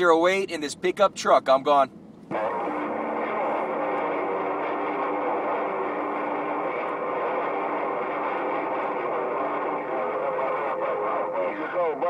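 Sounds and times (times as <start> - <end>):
radio static hiss: 0.0 - 12.0
faint distorted radio stations: 2.3 - 12.0.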